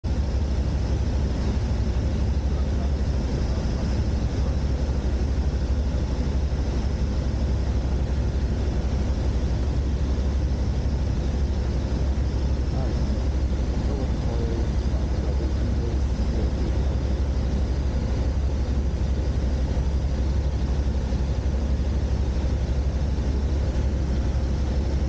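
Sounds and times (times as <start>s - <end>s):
aircraft engine droning: 0.0s - 25.0s.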